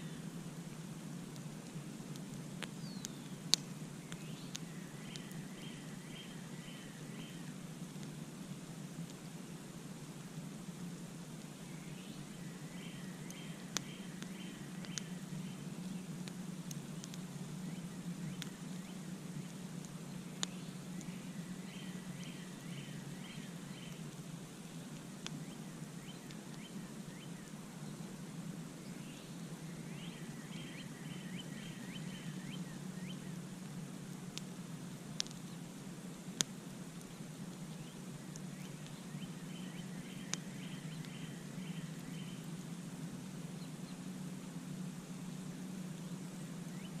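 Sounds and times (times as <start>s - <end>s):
campfire crackling: 0.0s - 47.0s
songbird singing: 0.0s - 47.0s.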